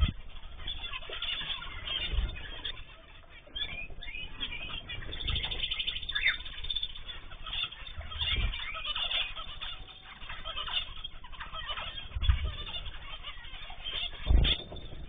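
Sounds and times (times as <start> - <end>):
birds chirping and calling: 0.0 - 15.0
fast bird trill: 0.0 - 15.0.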